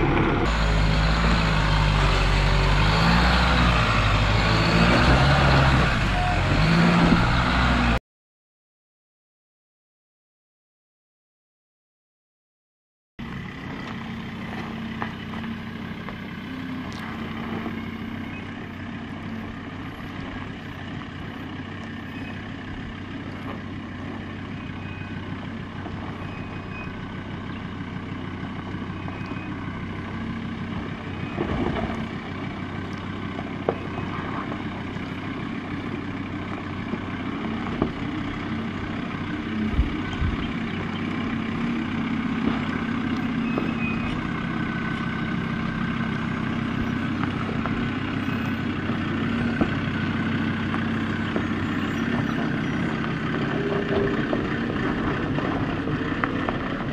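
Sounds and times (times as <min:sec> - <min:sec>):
engine running at low revs: 0:00.0 - 0:08.0, 0:13.2 - 0:56.9.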